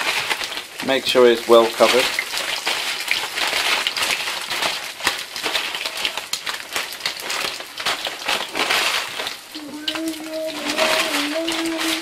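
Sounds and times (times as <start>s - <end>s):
cornflakes crunching: 0.0s - 12.0s
food frying in oil: 0.0s - 12.0s
plastic bag crinkling: 0.0s - 12.0s.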